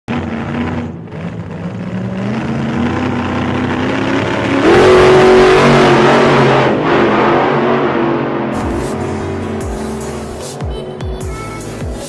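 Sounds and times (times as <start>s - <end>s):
vehicle engine revving: 0.1s - 12.0s.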